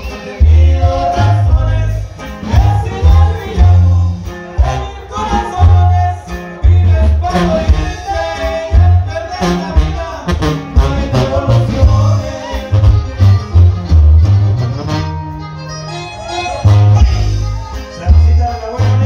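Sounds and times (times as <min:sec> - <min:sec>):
accordion melody: 0:00.0 - 0:19.0
tuba bass line: 0:00.0 - 0:19.0.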